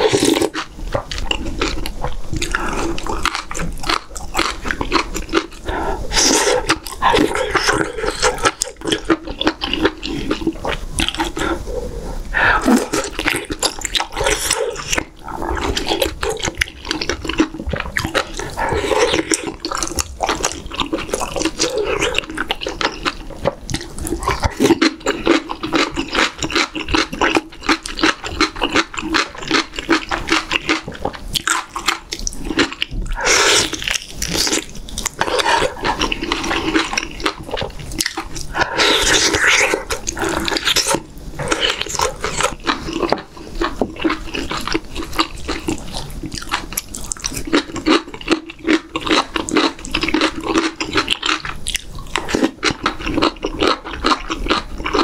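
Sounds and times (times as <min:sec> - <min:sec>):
wet chewing and lip-smacking: 0:00.0 - 0:12.0, 0:12.6 - 0:55.0
slurping: 0:00.0 - 0:55.0.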